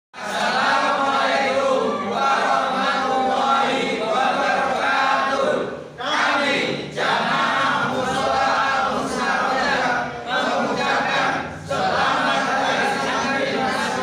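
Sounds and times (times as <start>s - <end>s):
congregation chanting in unison: 0.2s - 14.0s.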